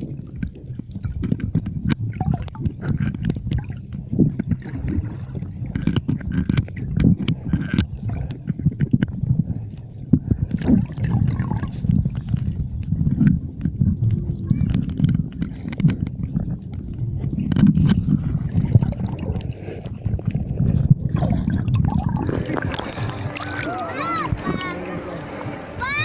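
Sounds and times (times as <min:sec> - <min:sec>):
water sloshing and gurgling: 0:00.0 - 0:26.0.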